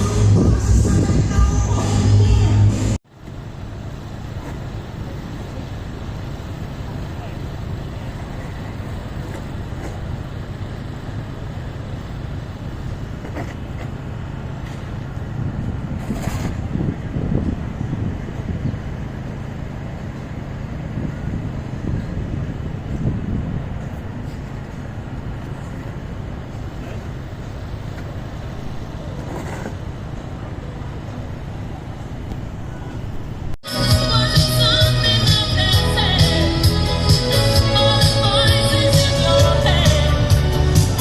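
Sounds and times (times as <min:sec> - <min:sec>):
city traffic rumble: 0:00.0 - 0:41.0
vehicle engines idling: 0:00.0 - 0:41.0.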